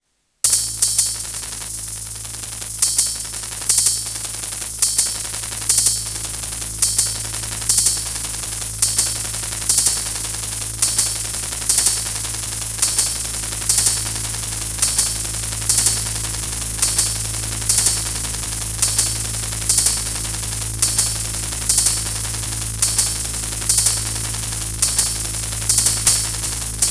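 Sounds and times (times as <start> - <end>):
constant hiss: 0.2 - 26.9.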